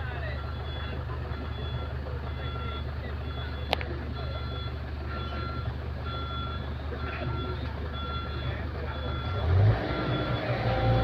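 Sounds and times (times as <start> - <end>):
diesel engine running: 0.0 - 11.0
excavator travel alarm beeping: 0.0 - 11.0.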